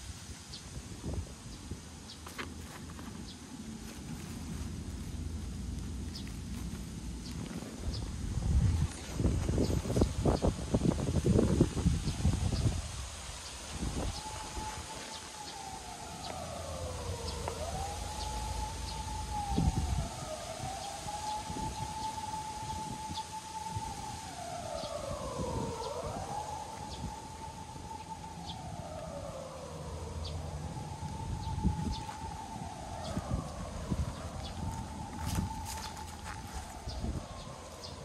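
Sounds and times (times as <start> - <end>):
siren wailing: 5.0 - 38.0.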